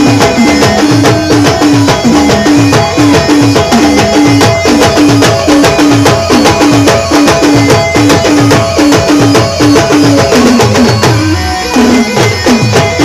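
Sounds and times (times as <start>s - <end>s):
band playing dance tune: 0.0s - 13.0s
fast drum beat: 0.0s - 13.0s.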